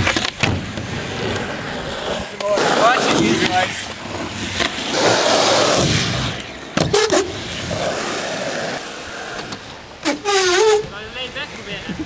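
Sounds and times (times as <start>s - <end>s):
skateboard wheels rolling on asphalt: 0.0s - 12.0s.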